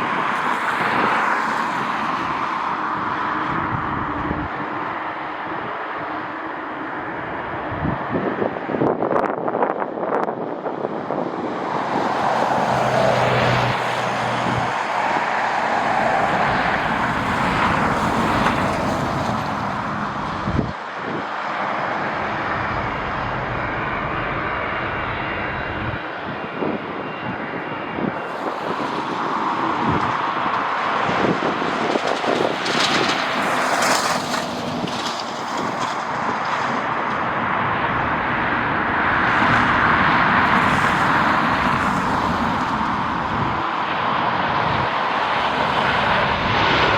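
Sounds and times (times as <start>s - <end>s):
jet engines rushing: 0.0s - 46.9s.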